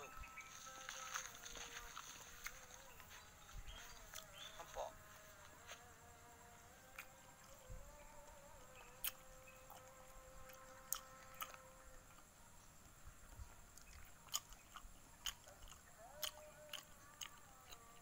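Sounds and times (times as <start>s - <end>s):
faint insect buzzing: 0.0s - 18.0s.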